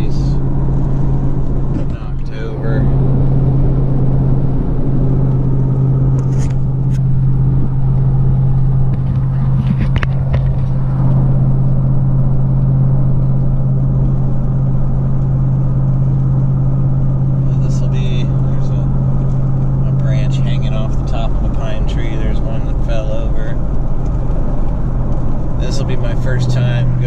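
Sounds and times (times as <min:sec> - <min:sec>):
vehicle cabin road drone: 0:00.0 - 0:27.0.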